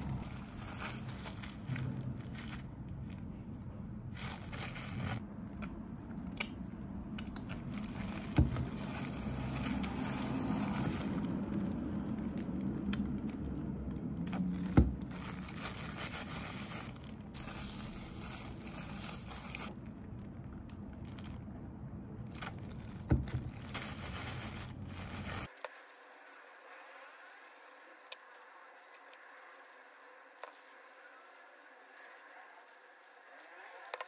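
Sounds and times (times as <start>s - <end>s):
plastic gloves crinkling: 0.0s - 34.0s.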